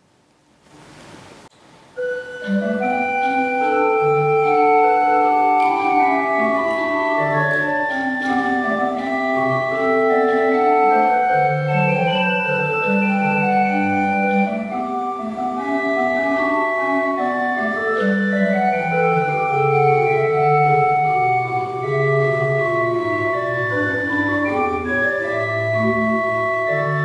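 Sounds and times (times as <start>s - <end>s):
organ playing held chords: 2.0s - 27.0s.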